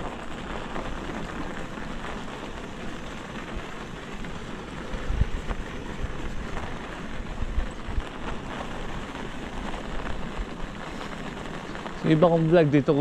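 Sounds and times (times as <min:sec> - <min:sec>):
bicycle tyres rolling on trail: 0:00.0 - 0:13.0
wind rushing over microphone: 0:00.0 - 0:13.0.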